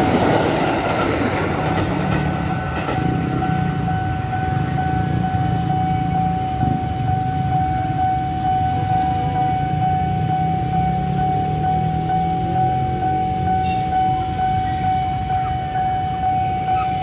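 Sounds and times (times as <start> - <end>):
crossing alarm tone: 0.0 - 17.0
low traffic and train rumble: 0.0 - 17.0.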